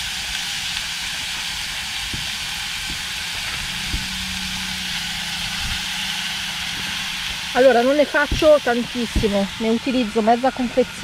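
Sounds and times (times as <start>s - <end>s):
low steady hum: 0.0s - 11.0s
meat and vegetables sizzling: 0.0s - 11.0s.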